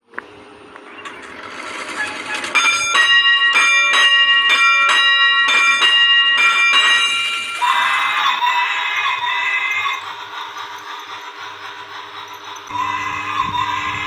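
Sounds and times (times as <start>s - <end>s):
bell ringing: 2.6s - 14.0s.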